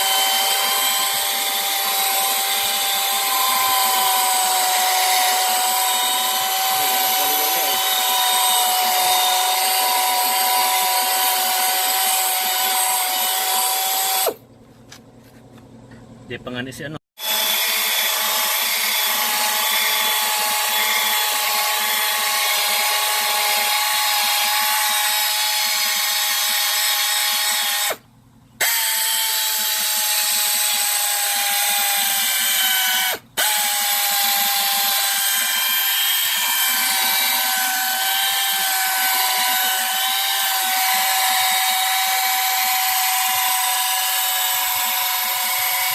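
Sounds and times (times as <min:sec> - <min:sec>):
power tool whining: 0:00.0 - 0:14.5, 0:17.2 - 0:45.9.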